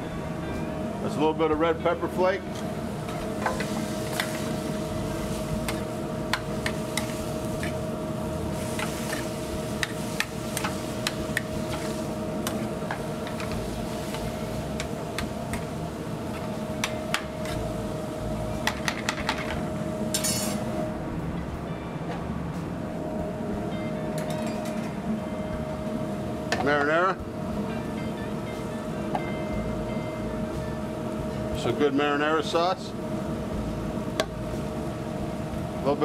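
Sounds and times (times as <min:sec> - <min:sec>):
kitchen hum: 0:00.8 - 0:36.0.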